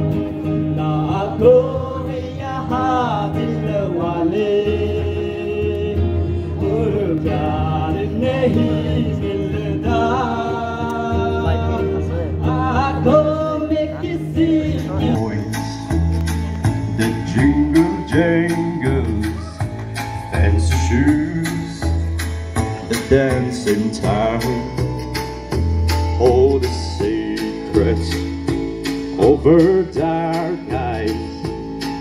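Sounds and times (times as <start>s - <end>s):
person singing: 0.0s - 25.2s, 25.8s - 32.0s
instrumental accompaniment: 0.0s - 32.0s.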